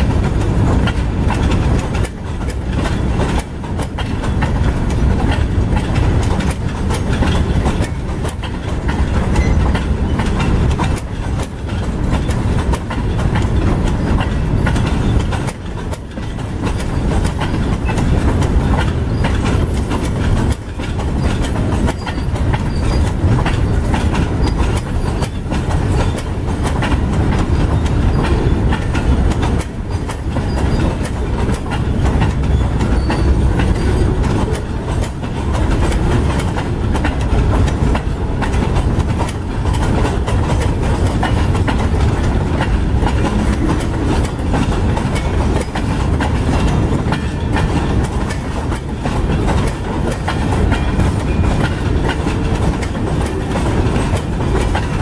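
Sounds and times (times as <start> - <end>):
train wheels rumbling on rail: 0.0 - 55.0
wheels clicking over rail joints: 0.0 - 55.0.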